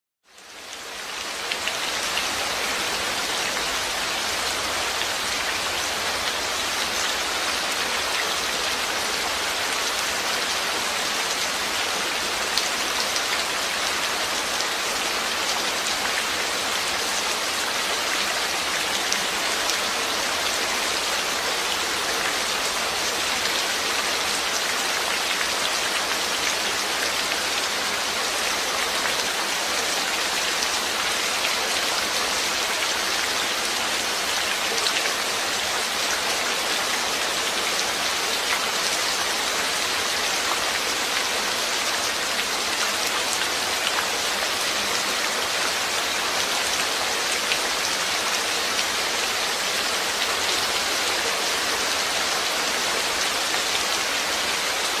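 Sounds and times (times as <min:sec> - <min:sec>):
steady rain hiss: 0:00.3 - 0:55.0.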